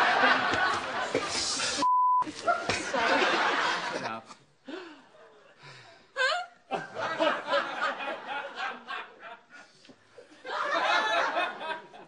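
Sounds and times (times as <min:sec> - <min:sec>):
people laughing: 0:00.0 - 0:04.4, 0:06.2 - 0:12.0.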